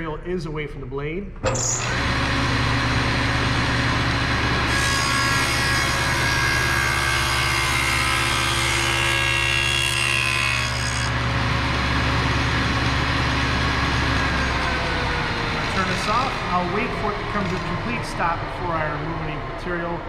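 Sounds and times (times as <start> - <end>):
table saw cutting board: 1.5 - 19.0
saw motor hum: 1.5 - 19.6.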